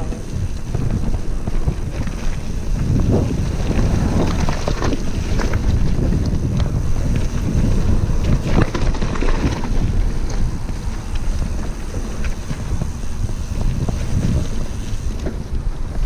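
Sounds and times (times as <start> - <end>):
bike rattling: 0.0 - 16.0
bike tyres rolling on gravel: 0.0 - 16.0
wind buffeting microphone: 0.0 - 16.0.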